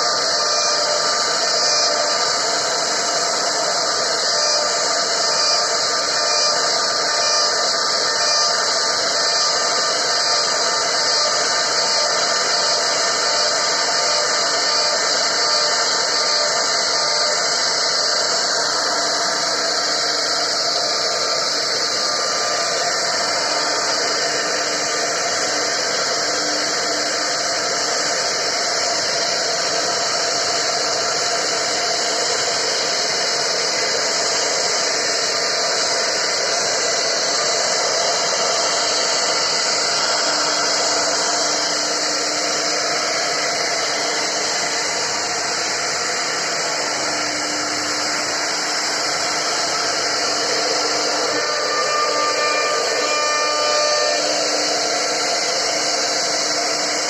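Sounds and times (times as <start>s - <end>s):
router spindle carving wood: 0.0s - 57.0s.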